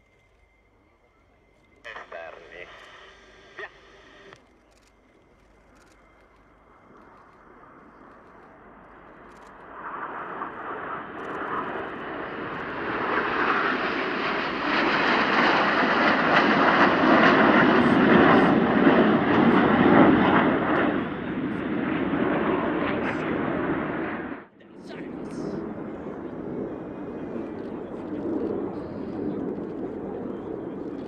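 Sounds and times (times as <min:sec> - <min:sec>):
jet aircraft flying past: 0:05.1 - 0:31.0.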